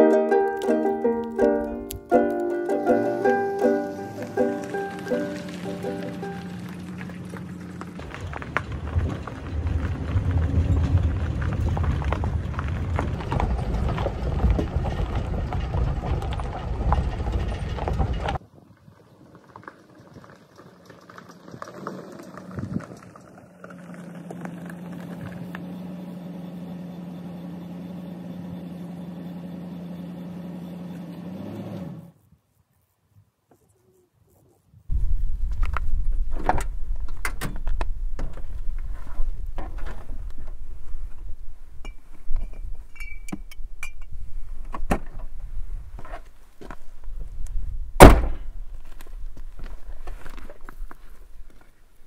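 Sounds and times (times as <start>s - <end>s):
vehicle road and engine rumble: 0.0s - 32.2s, 34.9s - 52.0s.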